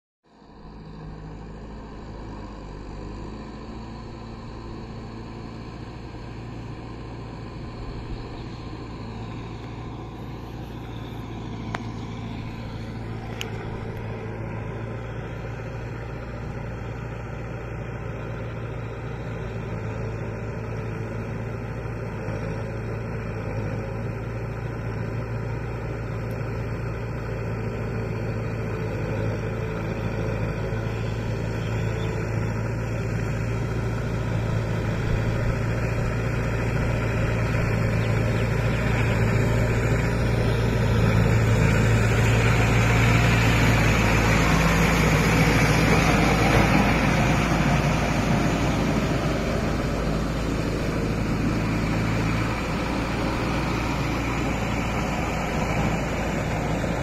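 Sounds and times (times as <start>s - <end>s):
tractor diesel engine running: 0.3s - 57.0s.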